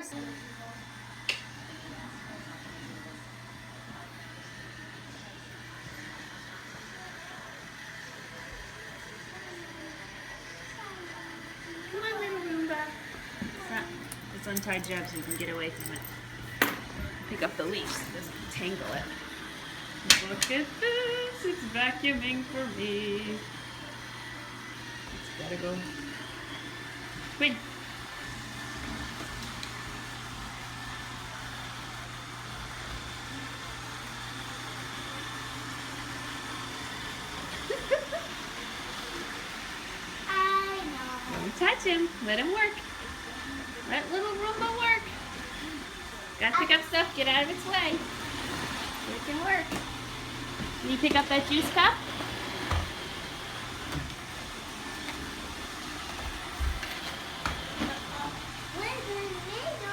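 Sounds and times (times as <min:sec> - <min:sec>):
robot vacuum running: 0:00.0 - 0:59.9.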